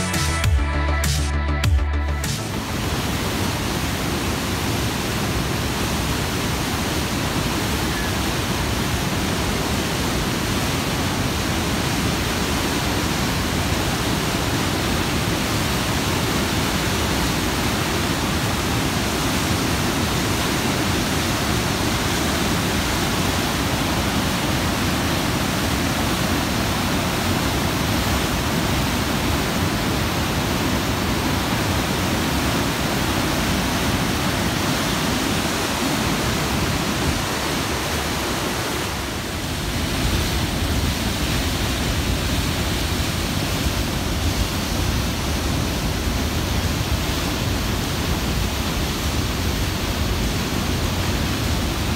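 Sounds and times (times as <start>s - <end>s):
water rushing through rapids: 2.4s - 51.9s.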